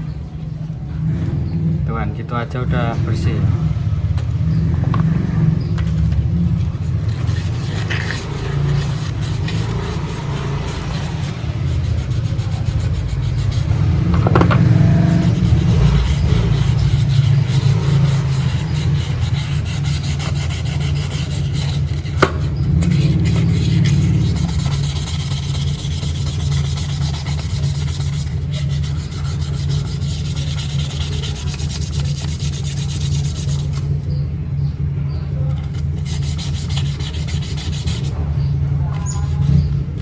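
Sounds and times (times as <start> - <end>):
scrubbing and scraping metal parts: 2.8 - 40.0.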